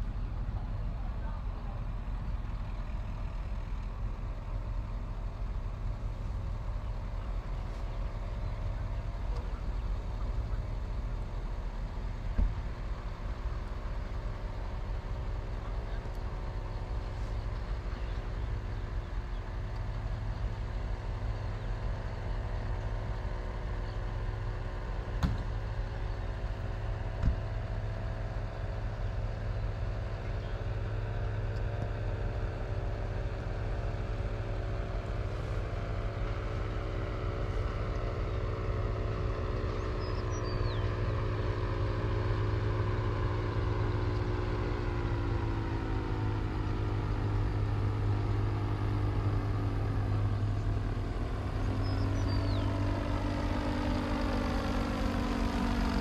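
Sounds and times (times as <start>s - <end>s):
distant paramotor engine droning: 0.0s - 56.0s.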